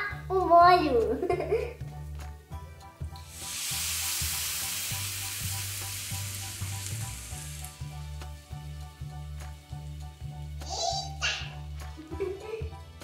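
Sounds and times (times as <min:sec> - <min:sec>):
meat sizzling in hot pan: 0:01.8 - 0:13.0.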